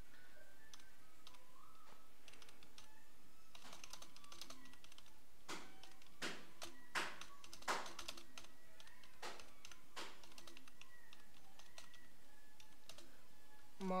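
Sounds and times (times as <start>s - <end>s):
keyboard typing: 0.6s - 13.2s.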